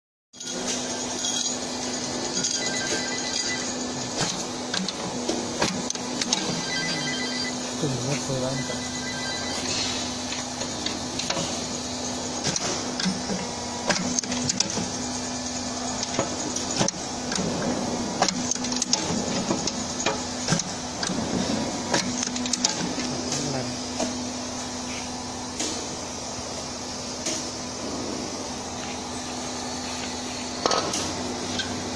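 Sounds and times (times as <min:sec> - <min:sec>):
machine hum: 0:00.4 - 0:31.9.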